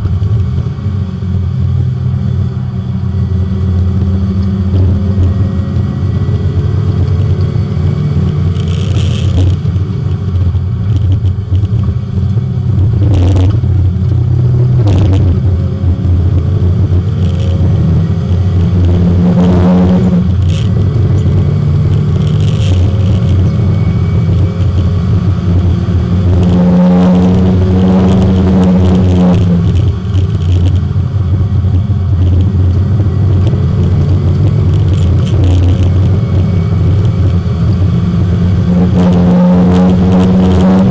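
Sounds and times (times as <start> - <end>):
race car engine shifting gears: 3.7 - 40.9.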